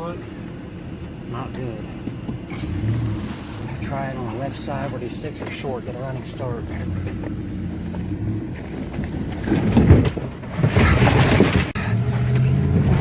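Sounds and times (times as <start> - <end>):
car engine under throttle: 0.0 - 13.0
branches crashing and scraping car: 2.4 - 13.0.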